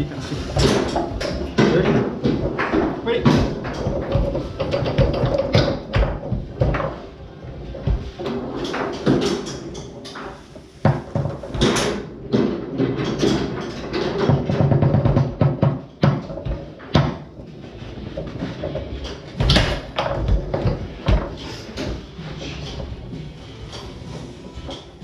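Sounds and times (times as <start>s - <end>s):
foosball rods clattering: 0.0s - 25.0s.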